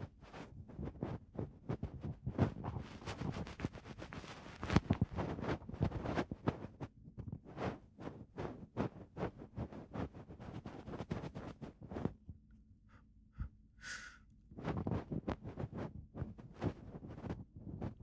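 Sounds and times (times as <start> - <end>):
scratchy rustling in ear: 0.0 - 12.2, 14.5 - 18.0.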